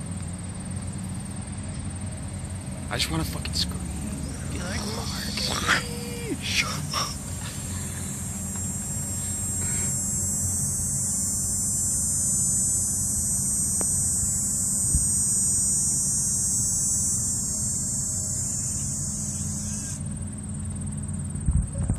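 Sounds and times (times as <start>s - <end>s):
insects buzzing: 0.0s - 21.9s
low hum: 0.0s - 21.9s.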